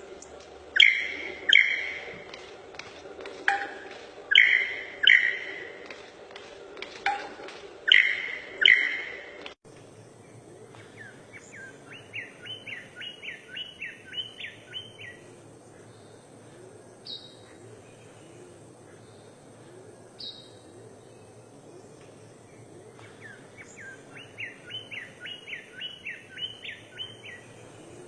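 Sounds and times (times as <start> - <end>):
bird calls: 0.0 - 28.0.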